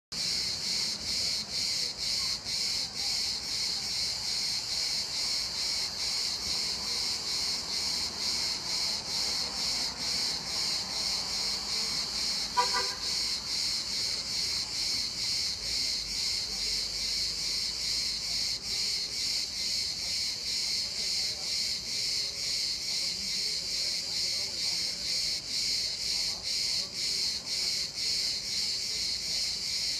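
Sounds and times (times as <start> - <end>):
cicadas buzzing: 0.2 - 29.9.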